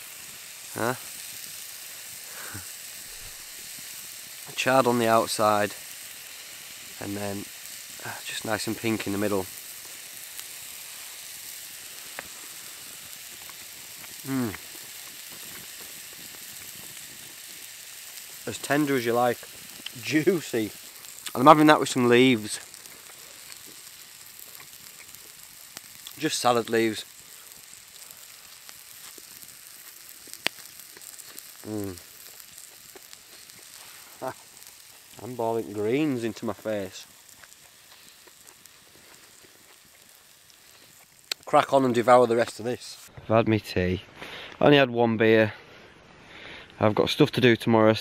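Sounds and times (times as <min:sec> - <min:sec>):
steak sizzling in a skillet: 0:00.0 - 0:43.1.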